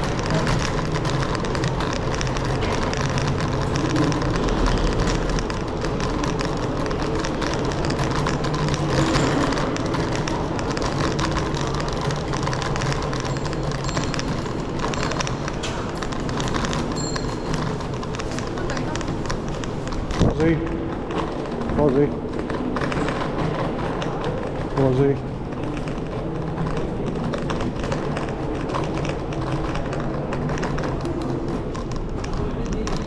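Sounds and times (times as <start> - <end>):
scooter rolling and wind noise: 0.0 - 33.0
small clicks and rattles: 0.0 - 33.0.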